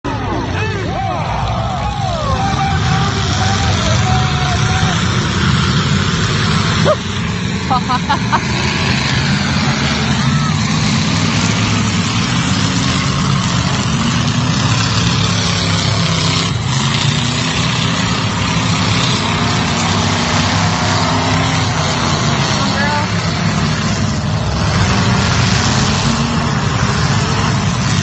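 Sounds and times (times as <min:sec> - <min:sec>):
car engines running: 0:00.0 - 0:28.0.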